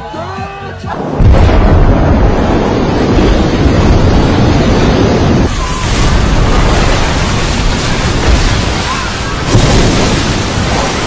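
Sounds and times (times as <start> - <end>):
deep rushing water noise: 0.9 - 11.0
large wave surging onto beach: 1.0 - 11.0.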